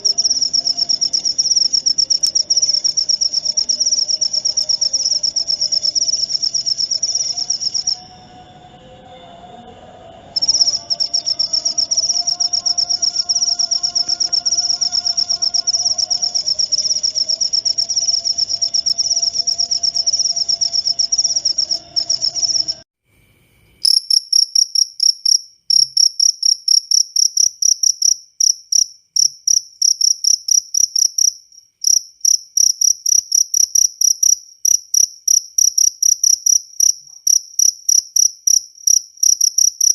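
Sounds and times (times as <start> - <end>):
cricket sharp chirps: 0.0 - 8.4, 10.3 - 39.9
crickets trilling: 0.0 - 39.9.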